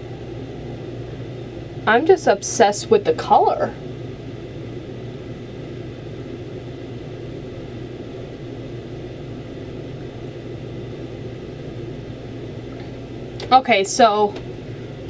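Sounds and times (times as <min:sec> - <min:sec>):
steady low hum with hiss: 0:00.0 - 0:15.0.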